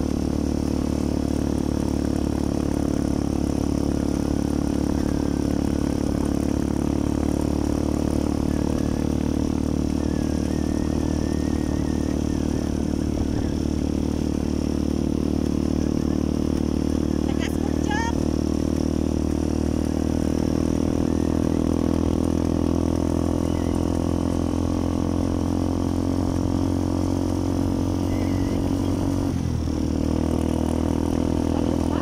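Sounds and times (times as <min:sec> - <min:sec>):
road noise: 0:00.0 - 0:32.0
small motorcycles riding: 0:00.0 - 0:32.0
vehicle engine drone: 0:00.0 - 0:32.0.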